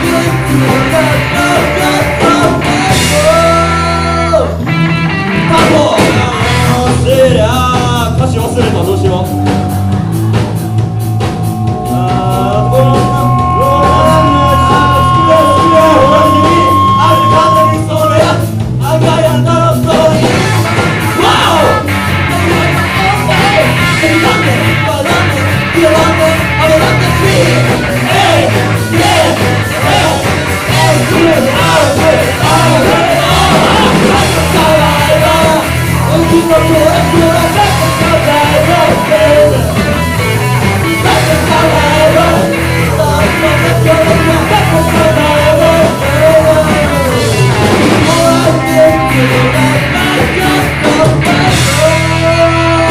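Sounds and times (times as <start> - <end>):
person singing: 0.0 - 4.6, 5.4 - 40.0, 40.8 - 52.9
live rock band playing: 0.0 - 52.9.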